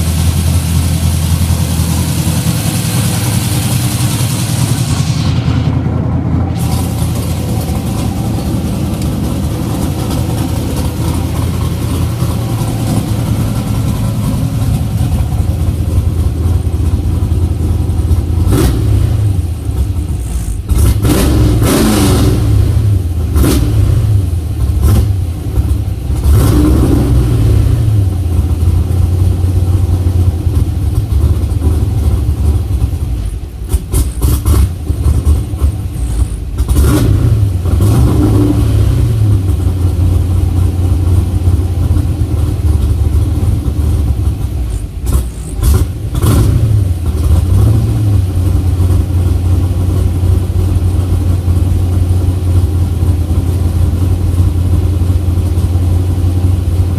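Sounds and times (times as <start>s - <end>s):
engine rough idle with throttle blips: 0.0s - 56.9s.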